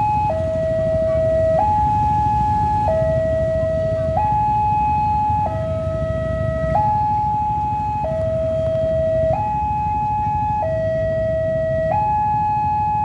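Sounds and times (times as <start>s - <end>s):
two-tone level crossing alarm: 0.0s - 13.0s.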